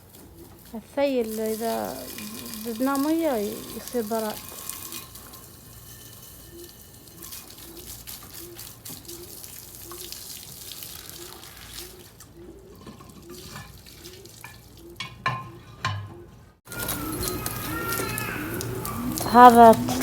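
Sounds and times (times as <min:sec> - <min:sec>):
water splashing across floor: 0:00.0 - 0:12.4, 0:13.1 - 0:15.0, 0:16.7 - 0:20.0.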